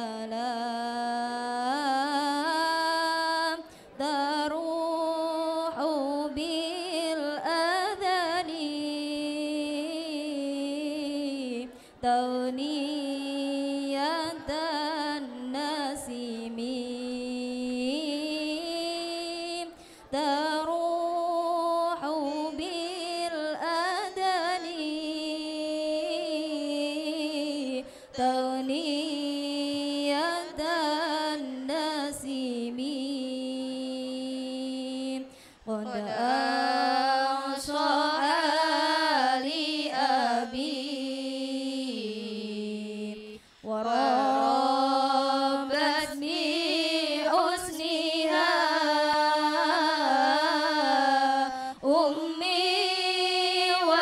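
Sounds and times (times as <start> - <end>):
women's choir chanting: 1.6 - 54.0.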